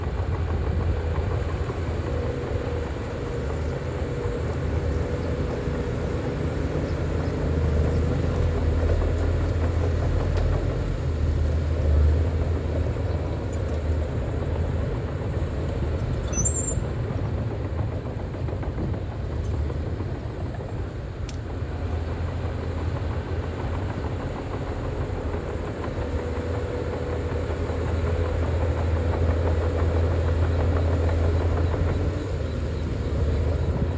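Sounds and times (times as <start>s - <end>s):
bulldozer diesel engine rumbling: 0.0s - 33.9s.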